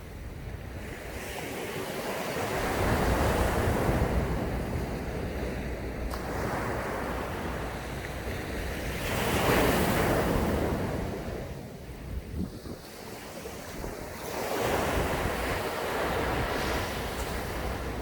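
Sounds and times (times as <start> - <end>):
waves crashing on beach: 0.0 - 18.0
wind buffeting microphone: 0.0 - 18.0.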